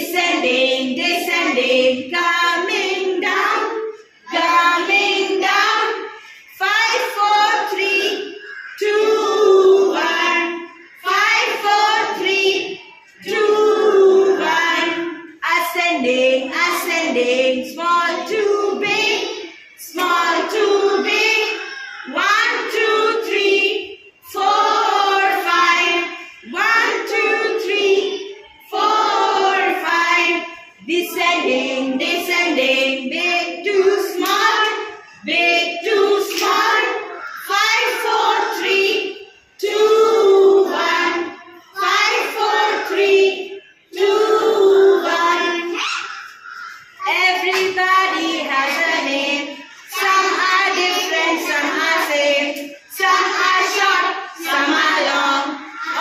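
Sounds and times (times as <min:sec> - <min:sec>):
children singing together: 0:00.0 - 0:56.0.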